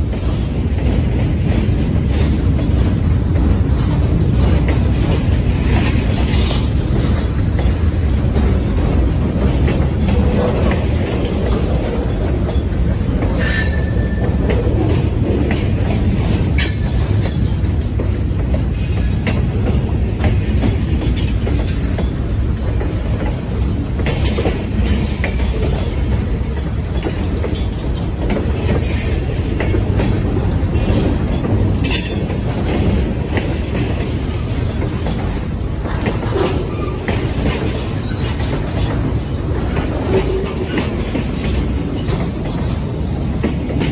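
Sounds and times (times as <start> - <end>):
steel wheels rumbling on rail: 0.0 - 43.9
wheels clicking over rail joints: 0.0 - 43.9.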